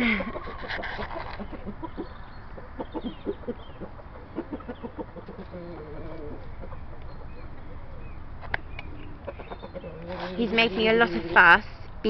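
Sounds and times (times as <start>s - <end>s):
rooster clucking: 0.0s - 8.1s, 9.0s - 11.8s.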